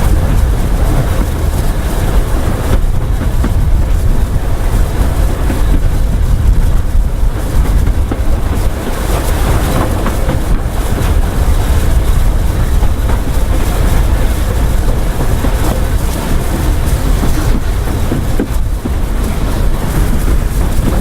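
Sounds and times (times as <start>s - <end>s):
steam train rumbling: 0.0s - 21.0s.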